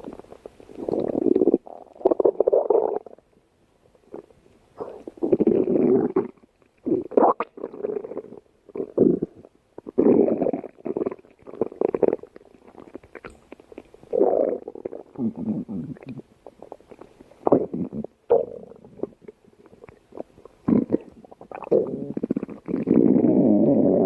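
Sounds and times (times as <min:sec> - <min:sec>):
stomach growling and gurgling: 0:00.0 - 0:03.2, 0:04.1 - 0:24.0.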